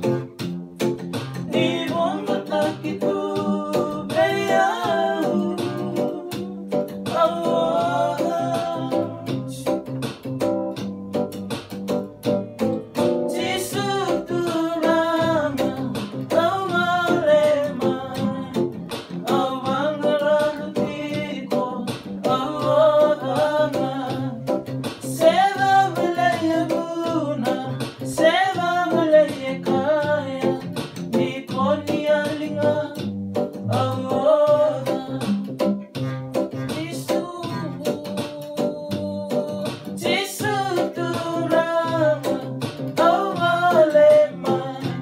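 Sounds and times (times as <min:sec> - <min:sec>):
electronic keyboard: 0:00.0 - 0:45.0
strummed acoustic guitar: 0:00.0 - 0:45.0
men singing: 0:01.4 - 0:09.9, 0:13.3 - 0:33.0, 0:33.6 - 0:35.6, 0:36.6 - 0:45.0.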